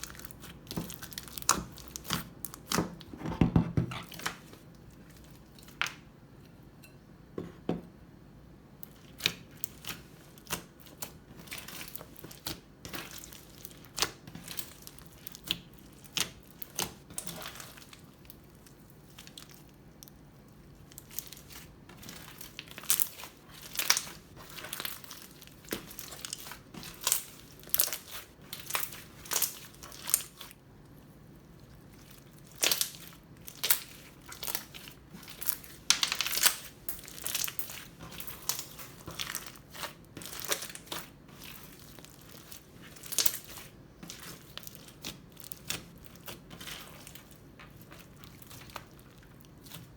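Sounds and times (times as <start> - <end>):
crunchy slime crackling: 0.0 - 3.1, 8.8 - 49.9.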